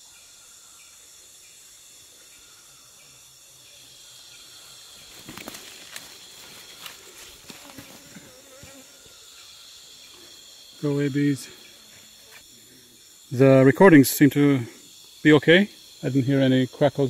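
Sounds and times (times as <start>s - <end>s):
bees buzzing: 0.0s - 17.0s
high-pitched insect chorus: 0.0s - 17.0s.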